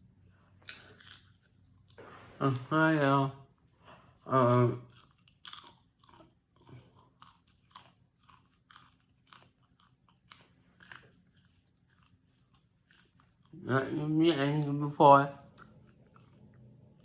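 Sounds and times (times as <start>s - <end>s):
person chewing popcorn: 0.0s - 17.0s.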